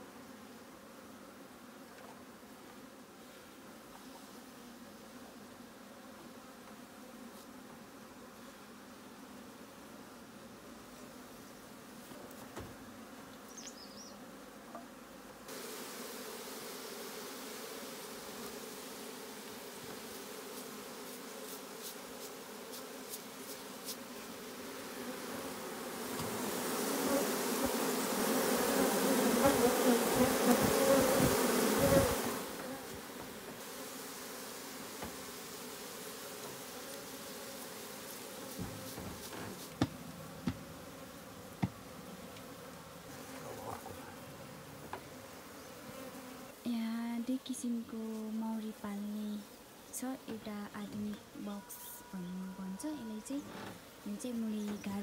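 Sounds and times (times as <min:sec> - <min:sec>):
swarm of bees buzzing: 0:00.0 - 0:55.0.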